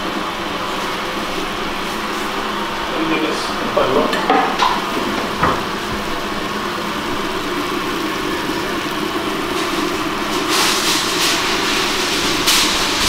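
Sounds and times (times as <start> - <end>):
rice sizzling in a pot: 0.0 - 13.0.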